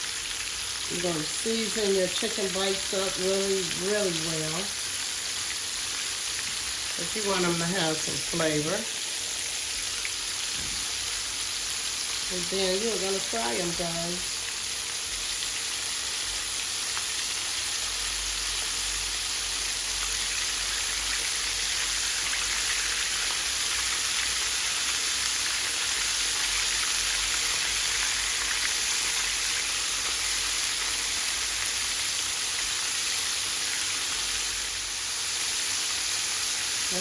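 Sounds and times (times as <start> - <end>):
chicken deep-frying sizzle: 0.0 - 37.0.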